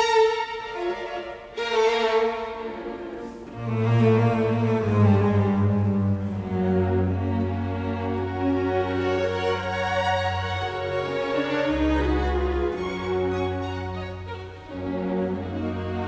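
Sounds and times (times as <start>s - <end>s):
low cello-like notes: 0.0s - 16.0s.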